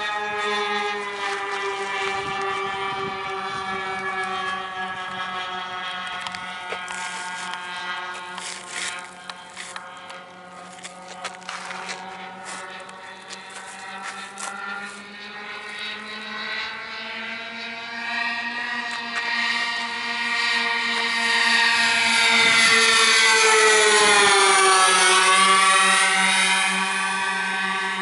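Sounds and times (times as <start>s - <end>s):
model airplane engines buzzing: 0.0s - 28.0s.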